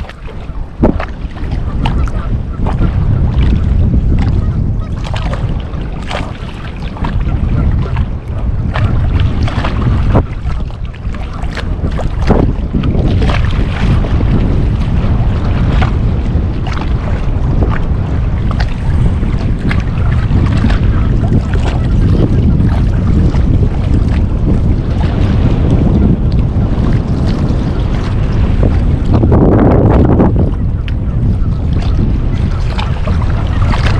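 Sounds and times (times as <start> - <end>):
small waves splashing: 0.0 - 33.9
wind buffeting microphone: 0.0 - 33.9.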